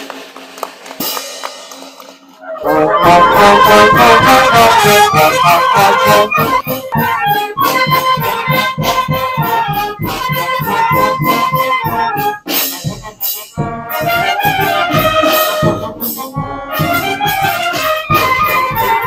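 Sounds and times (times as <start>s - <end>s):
brass band playing: 2.4s - 19.0s
bass drum and snare beat: 2.8s - 19.0s.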